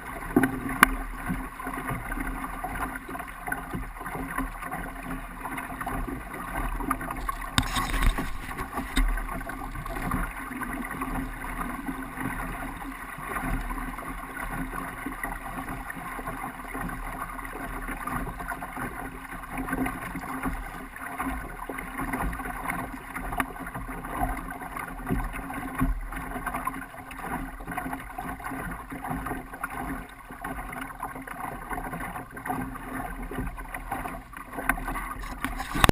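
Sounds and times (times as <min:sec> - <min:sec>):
water splashing along a hull: 0:00.0 - 0:35.9.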